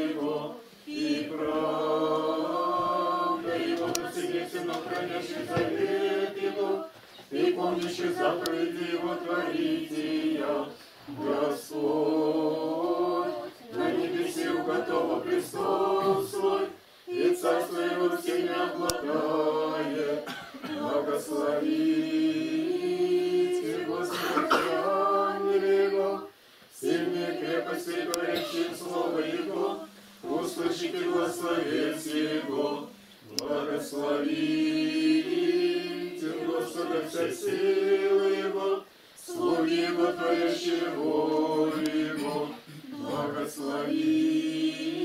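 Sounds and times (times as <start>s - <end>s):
choir chanting unaccompanied: 0.0s - 45.0s.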